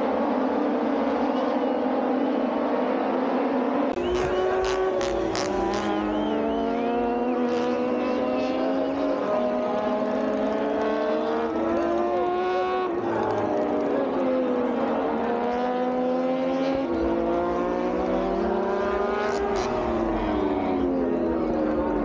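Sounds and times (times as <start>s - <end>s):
distant racing motorcycles: 0.0s - 22.0s.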